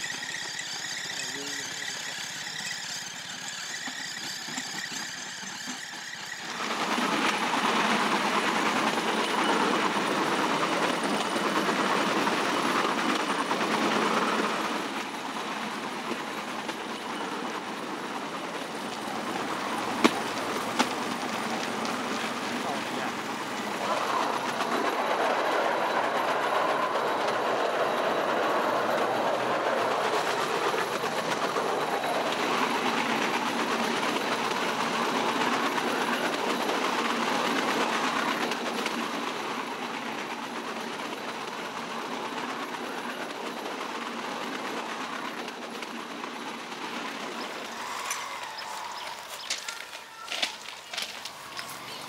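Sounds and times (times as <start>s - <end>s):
train wheels clattering on track: 0.0s - 52.0s.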